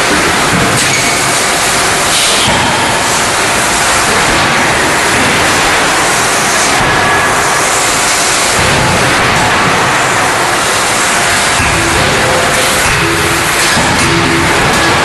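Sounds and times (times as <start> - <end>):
loud steady rushing noise: 0.0 - 15.0.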